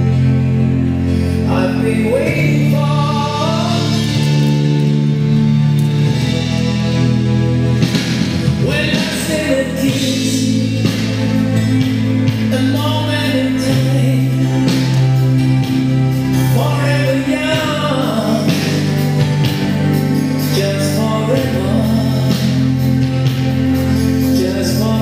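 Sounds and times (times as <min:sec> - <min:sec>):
song with sung vocals: 0:00.0 - 0:25.0.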